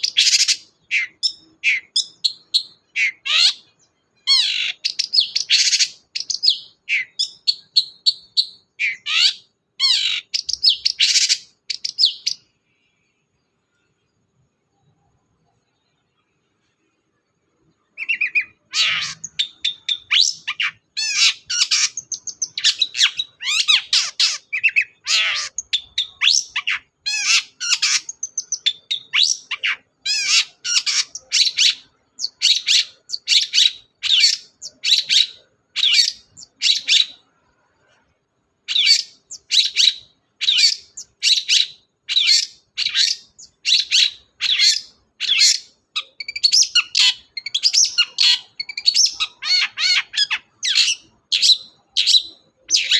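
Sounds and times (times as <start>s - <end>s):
bird harsh chirps and whistles: 0.0s - 12.5s, 17.7s - 37.4s, 38.6s - 52.9s.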